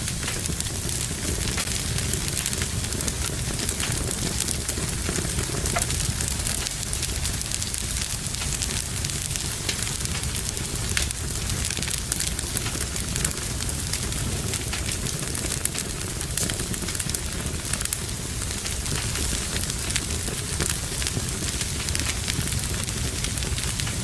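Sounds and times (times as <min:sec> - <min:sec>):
burning logs crackling and popping: 0:00.0 - 0:24.0
low rumble of flames: 0:00.0 - 0:24.0.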